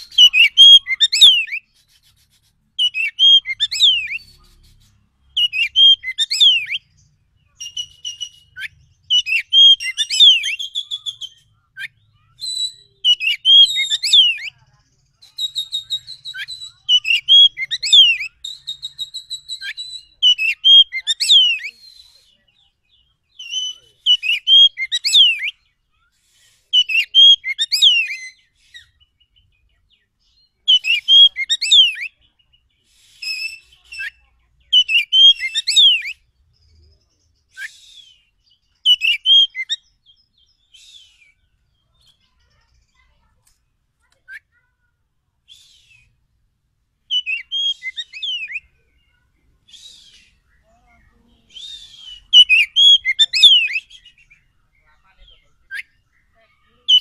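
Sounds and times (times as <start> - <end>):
bird song whistles: 0.0 - 14.6, 15.2 - 42.2, 45.4 - 46.3, 47.1 - 50.7, 51.4 - 57.0.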